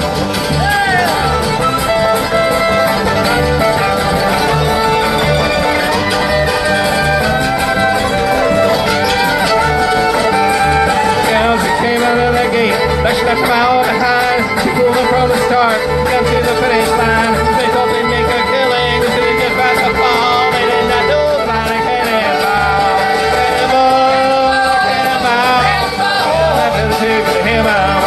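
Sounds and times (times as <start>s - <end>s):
banjo: 0.0s - 28.0s
fiddle melody: 0.0s - 28.0s
strummed acoustic guitar: 0.0s - 28.0s
upright bass: 0.0s - 28.0s.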